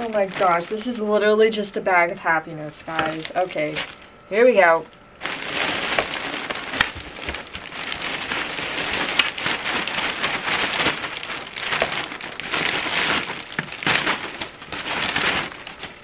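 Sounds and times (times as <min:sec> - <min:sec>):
plastic bags rustling and clicking: 0:00.0 - 0:16.0.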